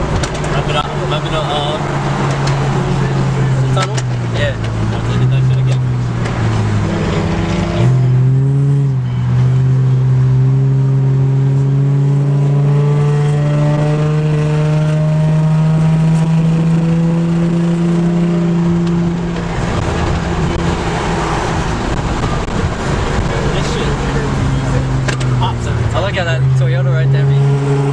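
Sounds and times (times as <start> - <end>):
car engine accelerating: 0.0 - 27.9.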